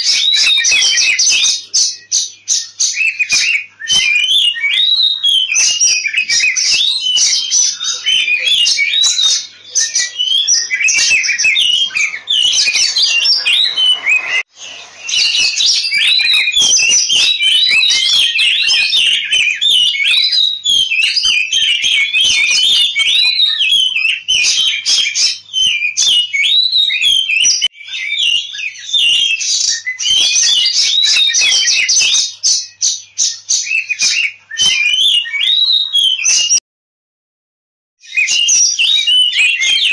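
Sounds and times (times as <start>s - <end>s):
bird singing whistles and chirps: 0.0s - 36.6s, 38.0s - 39.9s.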